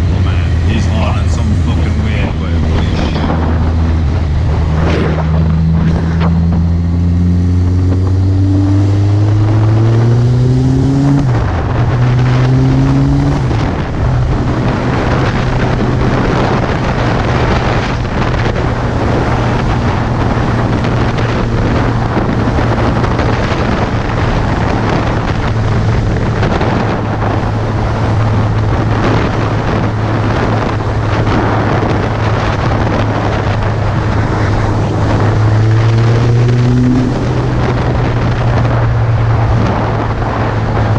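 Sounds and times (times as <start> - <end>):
heavy wind noise on microphone: 0.0 - 40.9
motorcycle engine shifting gears: 0.0 - 40.9.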